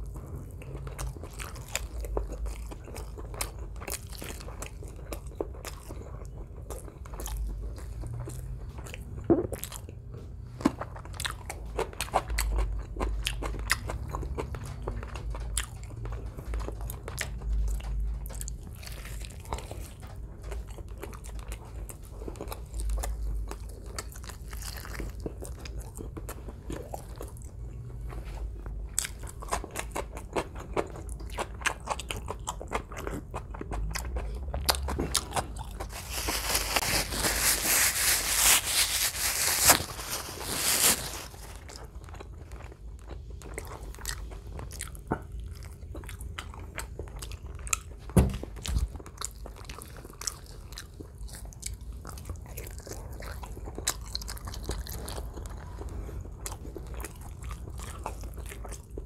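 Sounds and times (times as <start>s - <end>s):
biting and chewing: 0.0s - 59.0s
crunchy chewing: 0.0s - 59.0s.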